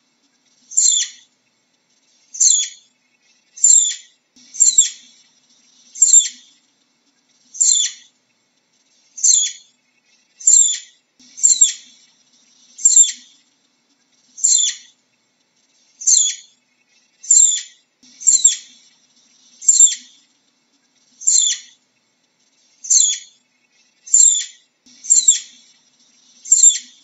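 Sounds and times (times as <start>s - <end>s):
flying squirrel chirping: 0.4s - 13.5s, 14.1s - 15.0s, 15.6s - 27.0s.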